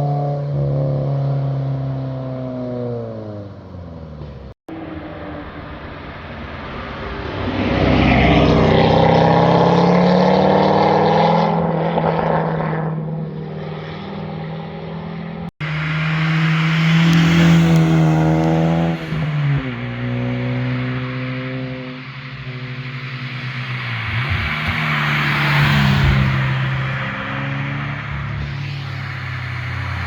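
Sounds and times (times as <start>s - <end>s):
car engines accelerating past: 4.7s - 30.0s.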